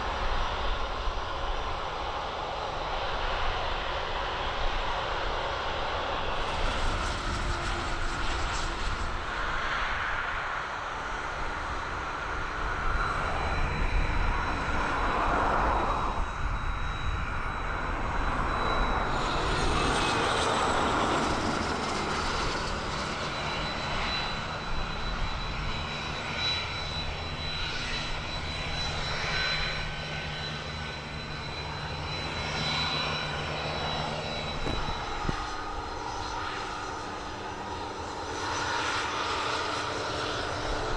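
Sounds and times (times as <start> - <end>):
aircraft engines running: 0.0 - 40.9.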